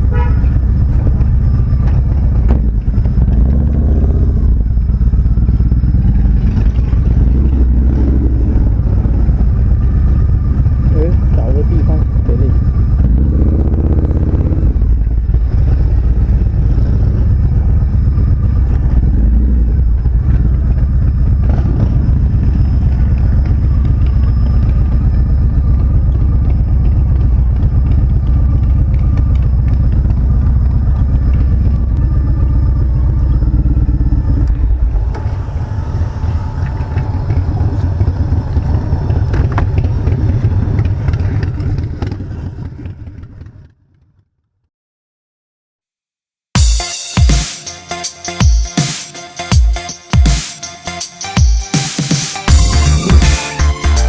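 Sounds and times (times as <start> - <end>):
motorcycle engine rumble: 0.0 - 44.3, 52.4 - 54.0.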